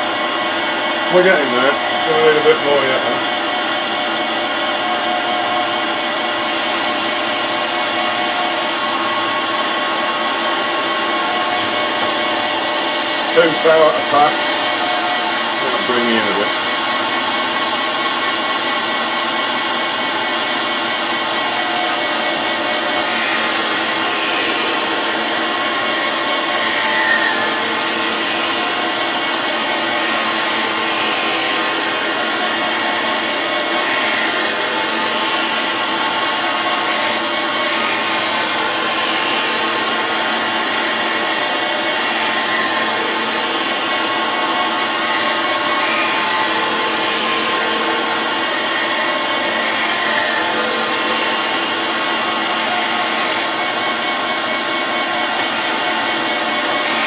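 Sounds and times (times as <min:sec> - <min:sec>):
machine hum: 0:00.0 - 0:57.0
grinding hiss: 0:04.8 - 0:57.0.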